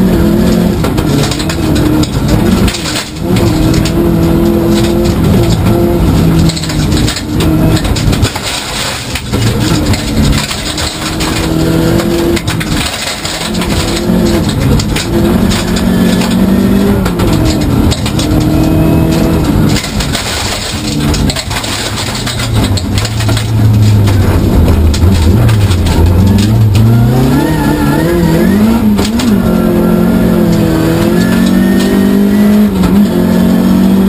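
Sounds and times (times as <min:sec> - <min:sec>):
gravel rattle and clatter: 0:00.0 - 0:34.0
rally car engine revving: 0:00.0 - 0:34.0.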